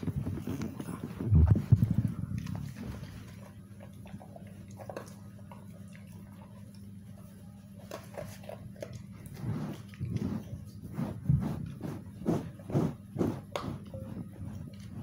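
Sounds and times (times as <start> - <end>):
dog eating from plastic bowl: 0.0 - 11.8, 13.4 - 15.0
steady low hum: 0.0 - 15.0.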